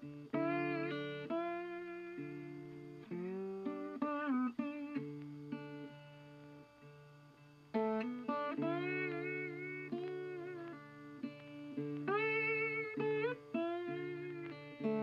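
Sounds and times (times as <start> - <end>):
guitar sliding plucked notes: 0.0 - 15.0.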